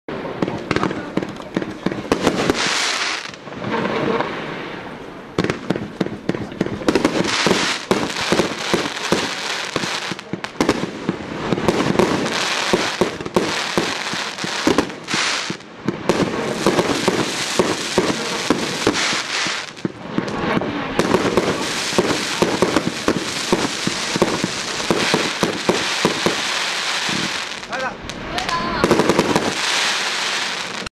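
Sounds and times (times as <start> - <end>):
fireworks bursting with crackling: 0.1 - 30.9
fireworks launching: 0.1 - 30.9.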